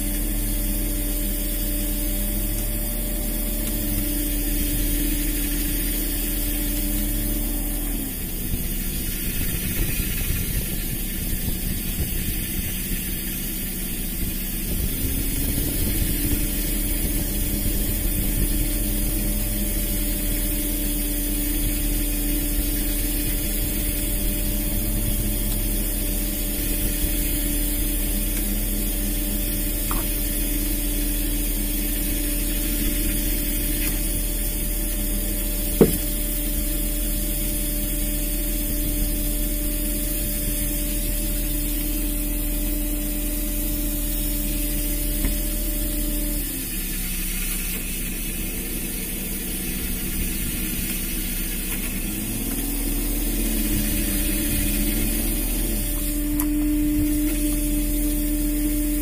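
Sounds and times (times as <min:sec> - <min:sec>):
boat engine humming: 0:00.0 - 0:59.0
hiss: 0:00.0 - 0:59.0.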